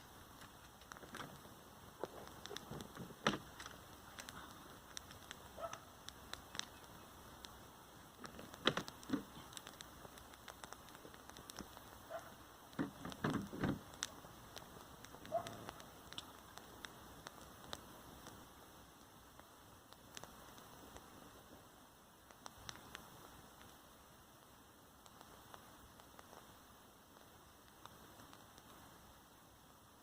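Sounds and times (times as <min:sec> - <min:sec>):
faint rain: 0:00.0 - 0:30.0.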